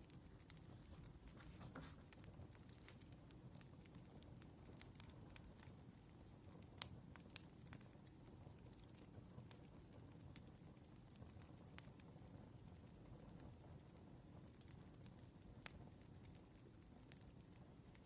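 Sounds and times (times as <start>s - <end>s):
low soft fire rumble: 0.0s - 18.0s
wood fire crackling: 0.0s - 18.0s.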